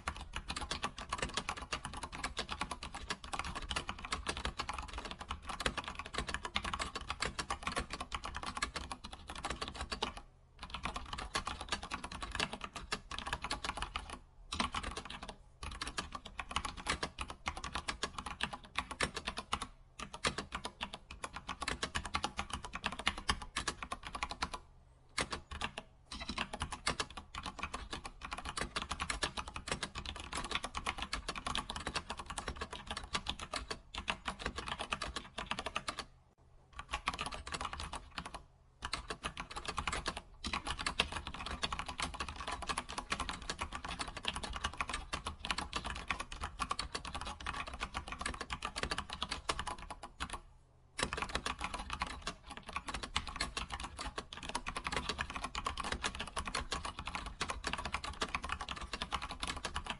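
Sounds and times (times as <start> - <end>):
computer keyboard typing: 0.0 - 36.1, 36.8 - 50.4, 51.0 - 59.9.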